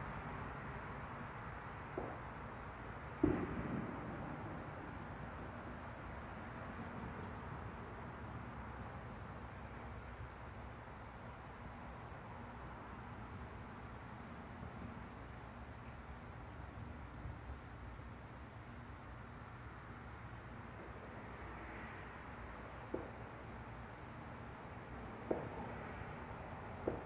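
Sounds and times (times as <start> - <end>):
cricket chirping: 0.0 - 27.0
low rushing background noise: 0.0 - 27.0.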